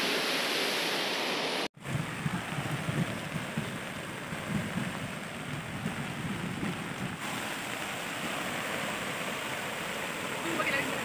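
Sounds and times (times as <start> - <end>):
river water rushing: 0.0 - 11.0
wind buffeting microphone: 1.8 - 11.0.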